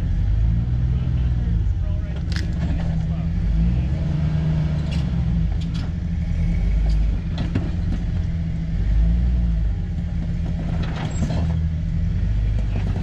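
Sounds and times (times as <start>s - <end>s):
car engine rumbling at low revs: 0.0s - 13.0s.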